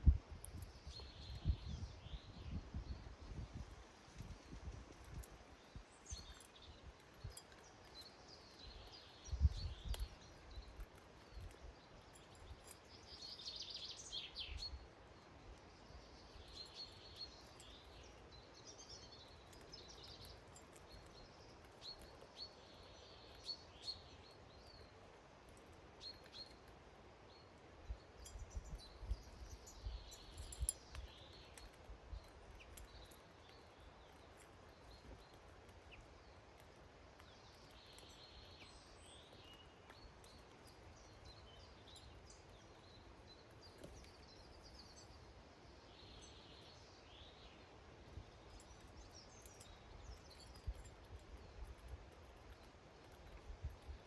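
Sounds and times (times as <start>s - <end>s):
birds chirping: 5.1s - 54.0s.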